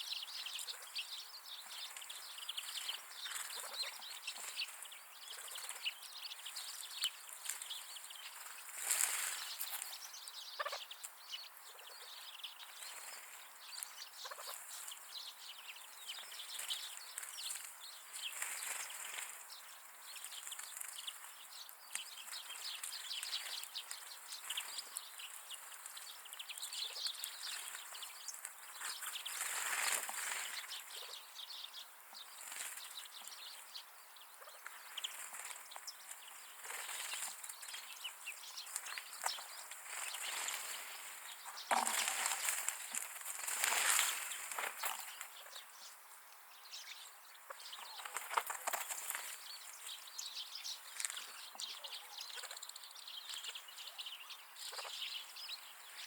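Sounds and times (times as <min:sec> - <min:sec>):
partridges calling: 0:00.0 - 0:56.0.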